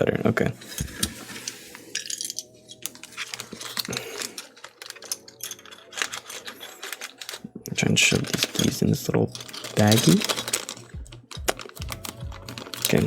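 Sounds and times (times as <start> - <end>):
plastic keycaps clattering: 0.6 - 13.0.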